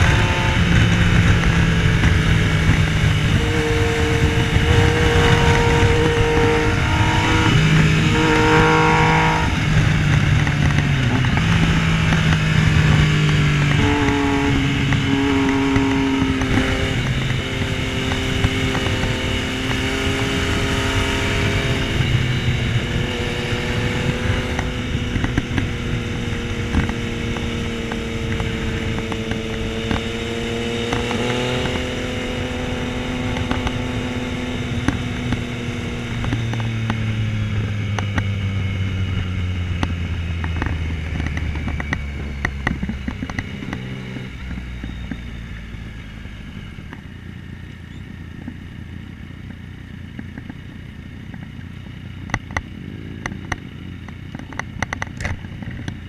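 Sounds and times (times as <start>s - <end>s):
wind noise: 0.0s - 47.2s
motorcycle engine running: 0.0s - 56.0s.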